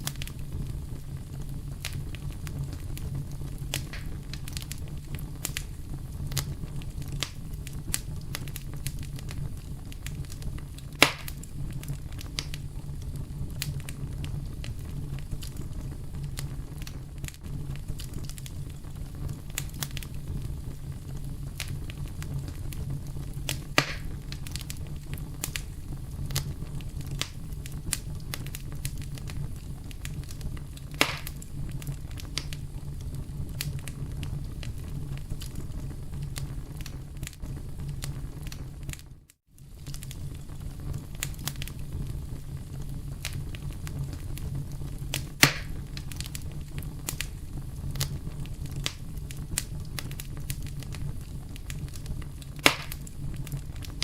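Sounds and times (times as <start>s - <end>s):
campfire crackling: 0.0s - 54.0s
fire pops: 0.0s - 54.0s.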